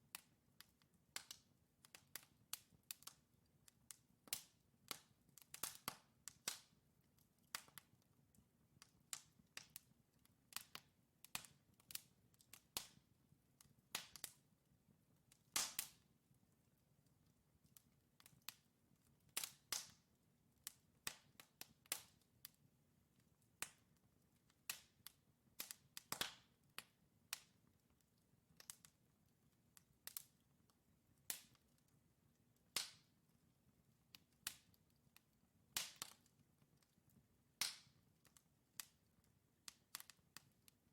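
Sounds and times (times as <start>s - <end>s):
logs crackling and popping: 0.6s - 13.0s, 13.6s - 14.4s, 15.3s - 16.1s, 17.1s - 20.0s, 20.6s - 33.4s, 34.1s - 40.8s.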